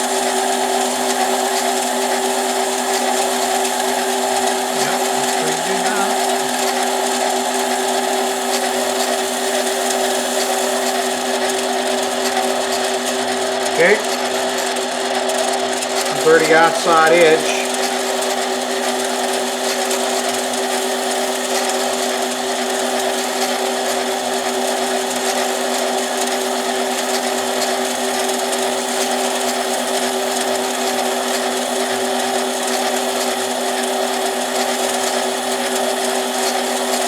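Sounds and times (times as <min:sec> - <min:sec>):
benchtop lathe humming: 0:00.0 - 0:37.0.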